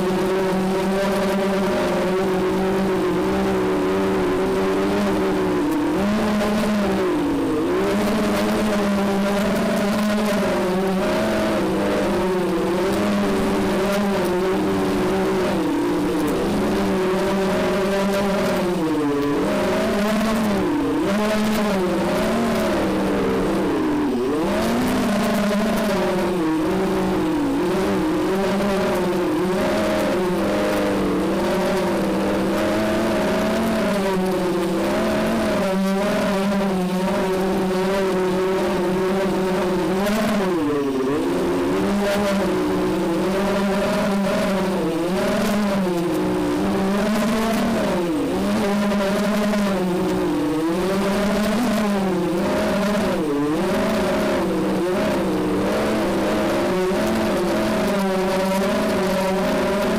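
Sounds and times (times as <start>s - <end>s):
quadcopter motors whining: 0.0s - 59.9s.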